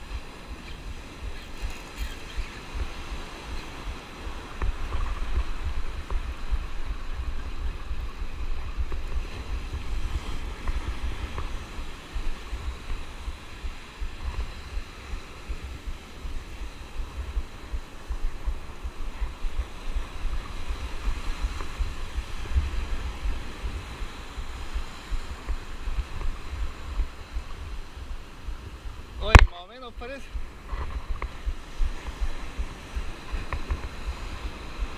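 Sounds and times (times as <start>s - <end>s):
surf breaking on beach: 0.0s - 34.9s
wind buffeting microphone: 0.0s - 34.9s.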